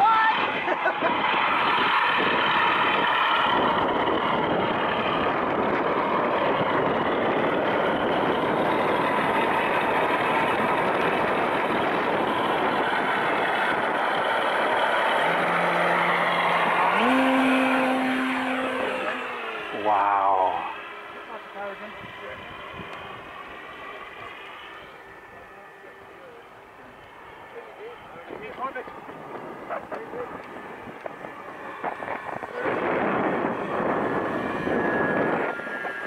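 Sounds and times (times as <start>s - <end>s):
model plane engine and propeller: 0.0s - 36.0s.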